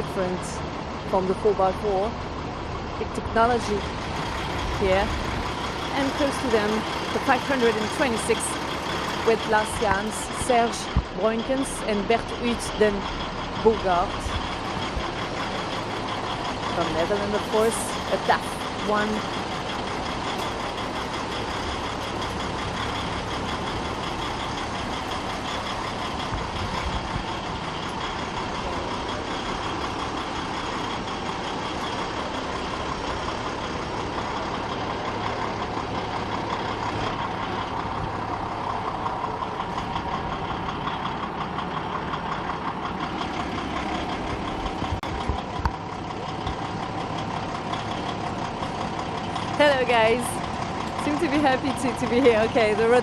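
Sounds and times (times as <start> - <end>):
diesel engines idling: 0.0 - 53.0.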